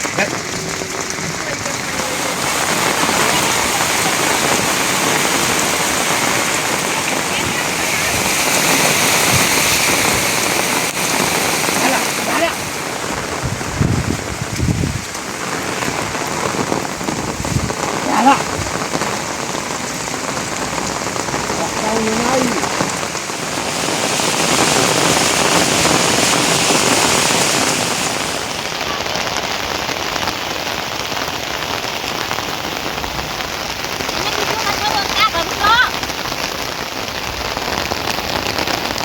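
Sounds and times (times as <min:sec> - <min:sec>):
rain pattering on surfaces: 0:00.0 - 0:39.0.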